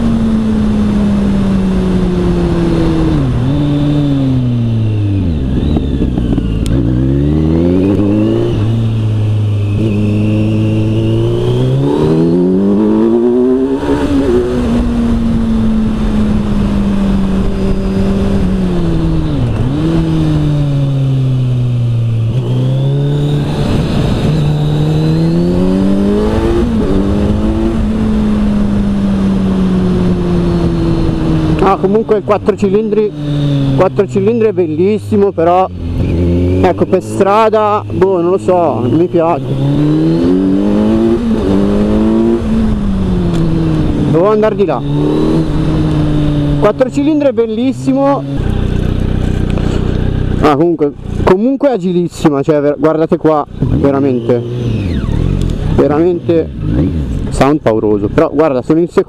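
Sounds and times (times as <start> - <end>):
downshift throttle blips: 0.0 - 51.7
motorcycle engine revving: 0.0 - 59.0.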